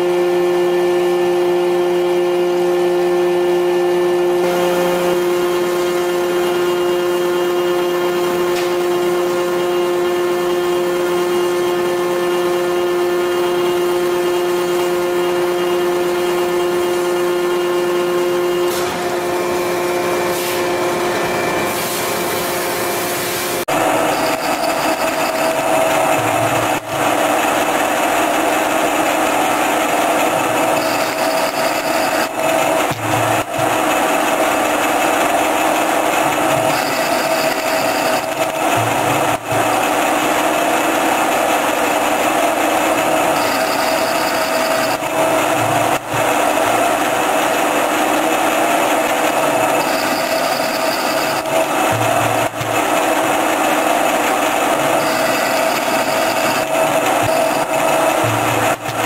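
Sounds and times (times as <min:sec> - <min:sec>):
lathe cutting steel: 0:04.3 - 0:59.0.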